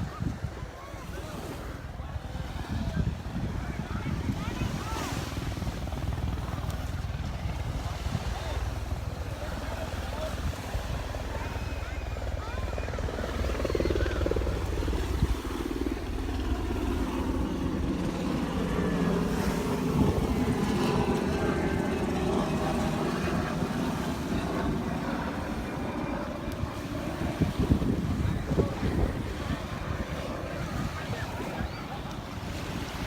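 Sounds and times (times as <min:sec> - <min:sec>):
wind rumble on microphone: 0:00.0 - 0:33.0.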